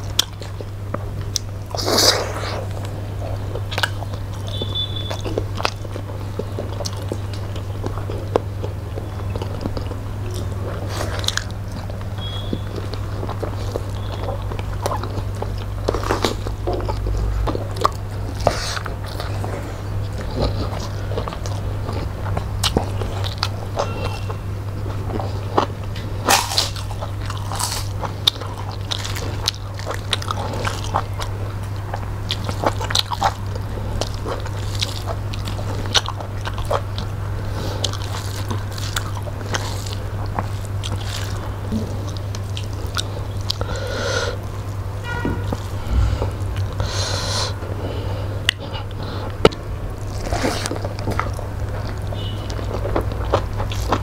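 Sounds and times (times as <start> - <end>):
chewing and lip-smacking: 0.0 - 54.0
steady low hum: 0.0 - 54.0.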